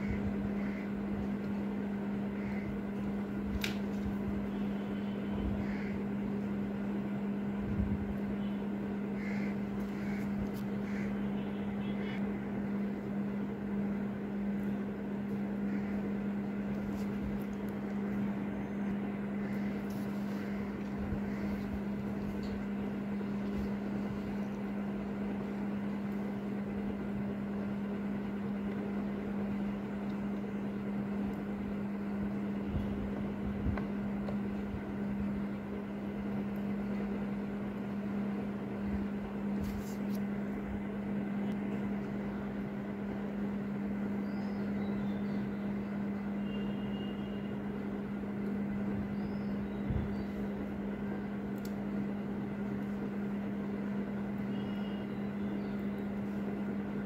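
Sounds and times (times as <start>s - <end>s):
steady low machine hum: 0.0s - 57.0s.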